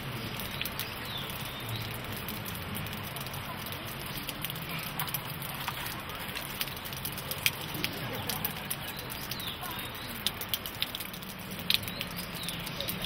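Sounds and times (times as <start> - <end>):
sharp clicks and crackles: 0.2 - 13.0.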